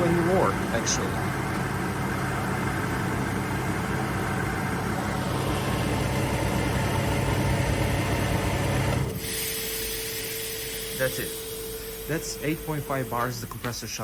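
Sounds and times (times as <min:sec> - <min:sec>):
air compressor humming: 0:00.0 - 0:14.0.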